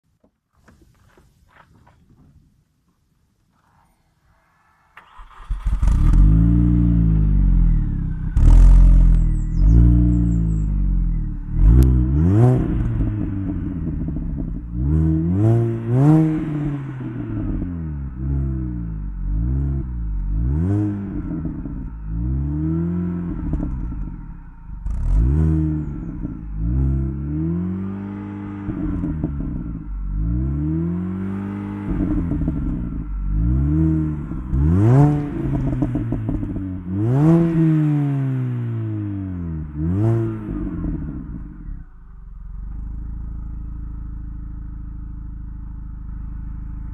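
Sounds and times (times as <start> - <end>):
car engine revving: 4.6 - 46.9.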